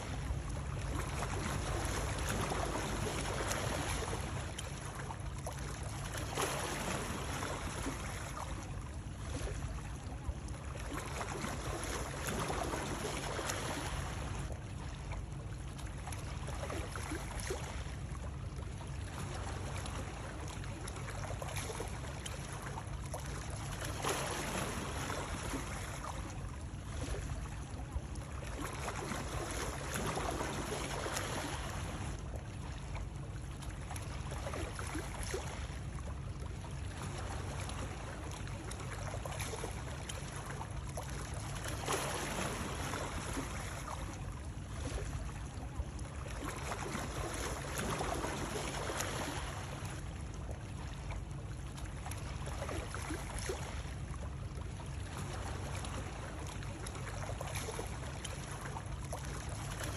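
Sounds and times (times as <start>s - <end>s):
water trickling and lapping: 0.0s - 59.9s.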